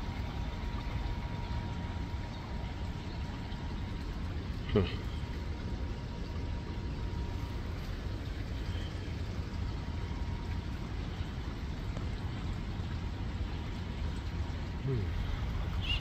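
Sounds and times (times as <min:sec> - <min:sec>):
creek water trickling over stones: 0:00.0 - 0:16.0.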